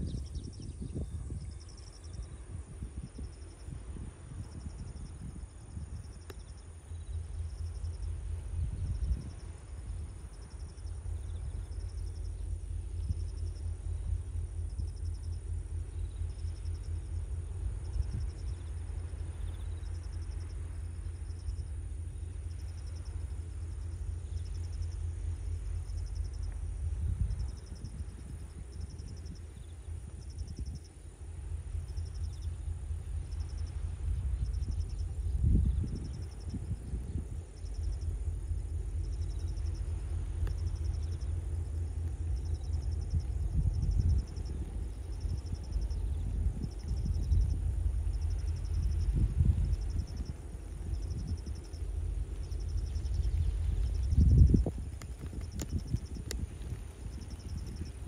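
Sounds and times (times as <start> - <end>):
insects chirping in pulsed trills: 0.0 - 58.0
wind rumble on microphone: 0.0 - 58.0.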